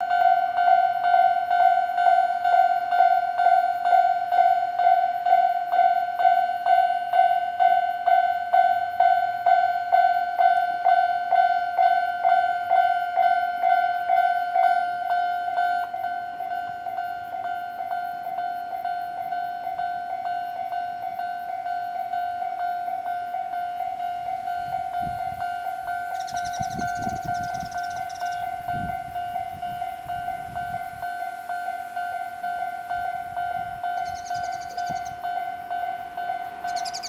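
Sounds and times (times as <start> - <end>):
level crossing warning bell: 0.0 - 37.0.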